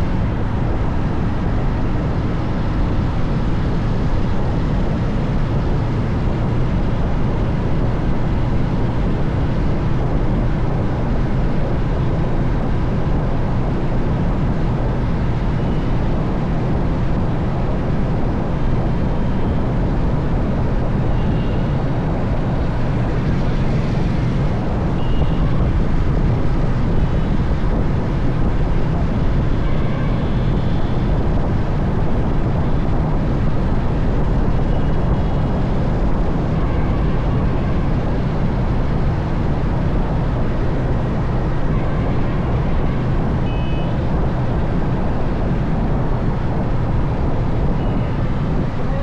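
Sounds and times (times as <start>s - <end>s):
motorbike road and wind noise: 0.0s - 49.0s.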